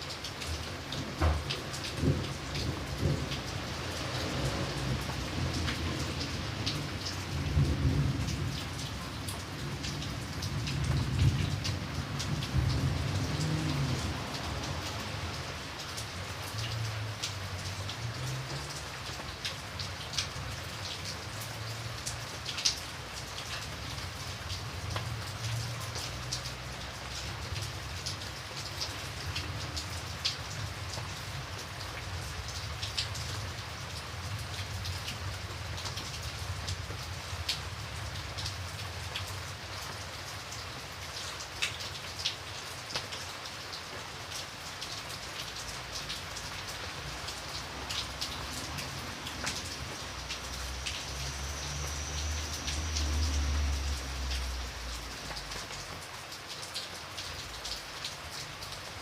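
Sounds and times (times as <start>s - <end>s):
rain drops on hard surface: 0.0s - 59.0s.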